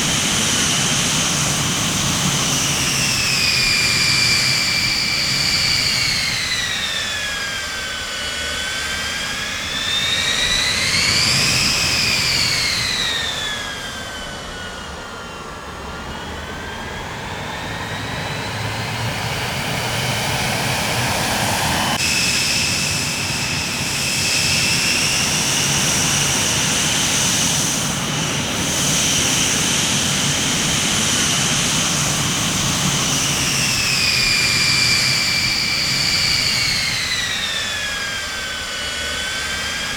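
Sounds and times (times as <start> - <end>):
jet engine turbine whine: 0.0 - 39.9.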